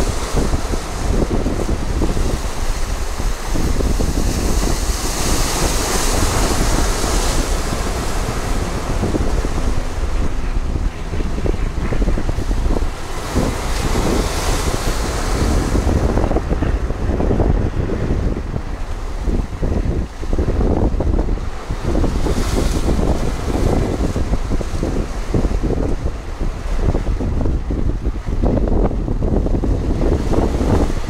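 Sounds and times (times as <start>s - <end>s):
surf breaking over rocks: 0.0s - 31.0s
wind rumble on microphone: 0.0s - 31.0s.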